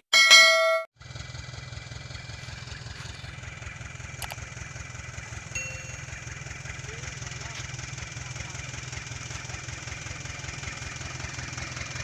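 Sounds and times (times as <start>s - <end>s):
diesel truck engine idling: 1.0s - 12.0s.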